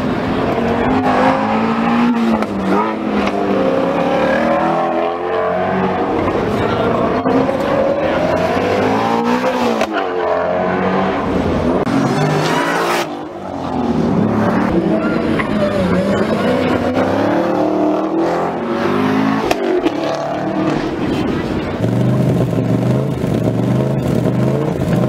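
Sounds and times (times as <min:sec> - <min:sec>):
car engines revving: 0:00.0 - 0:25.0
tires screeching: 0:00.0 - 0:25.0.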